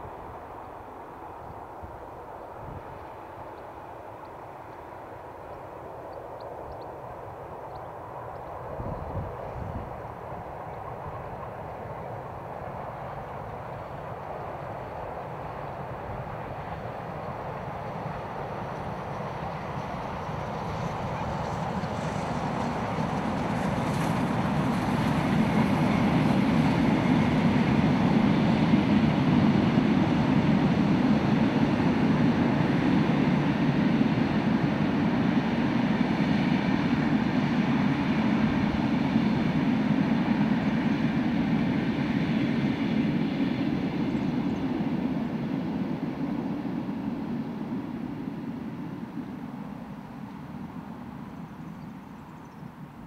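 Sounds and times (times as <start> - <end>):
steam train passing: 0.0 - 53.0.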